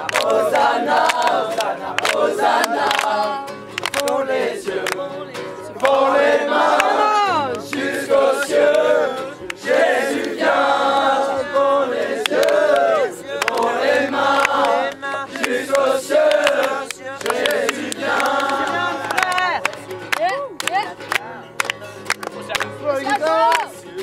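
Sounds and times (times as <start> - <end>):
young men singing together: 0.0 - 19.5.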